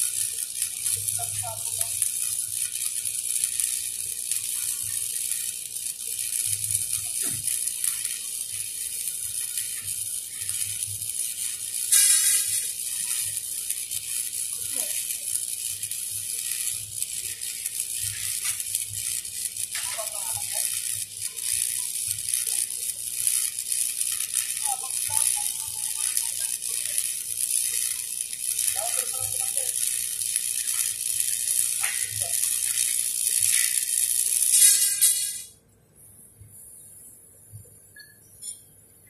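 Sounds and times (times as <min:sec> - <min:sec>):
welding arc crackling: 0:00.0 - 0:35.6.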